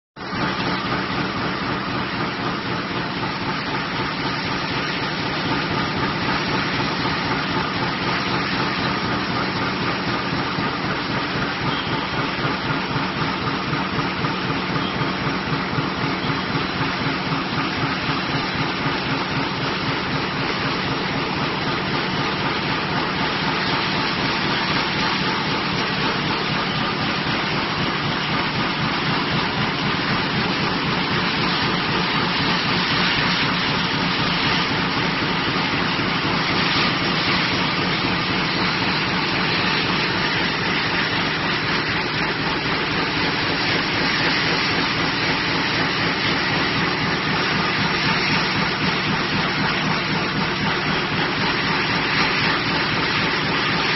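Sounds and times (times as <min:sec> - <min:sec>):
steel slitting machine running: 0:00.2 - 0:53.9.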